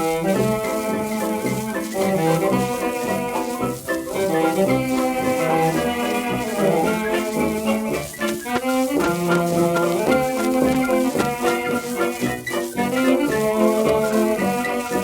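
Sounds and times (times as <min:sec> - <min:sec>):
dance orchestra with brass: 0:00.0 - 0:15.0
record surface hiss: 0:00.0 - 0:15.0.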